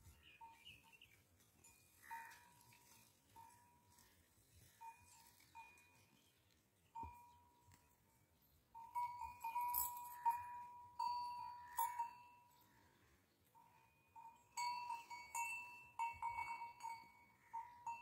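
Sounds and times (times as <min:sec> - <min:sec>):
livestock bell clanking: 0:00.0 - 0:08.1, 0:08.7 - 0:18.0.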